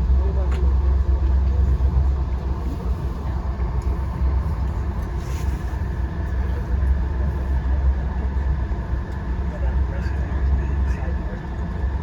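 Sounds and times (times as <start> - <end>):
train rumbling inside coach: 0.0 - 12.0.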